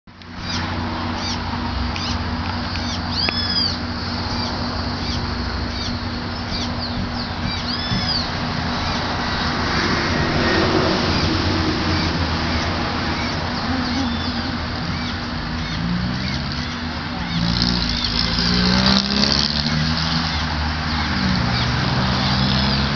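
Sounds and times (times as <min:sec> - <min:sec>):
birds chirping: 0:00.1 - 0:22.9
low engine hum: 0:00.1 - 0:22.9.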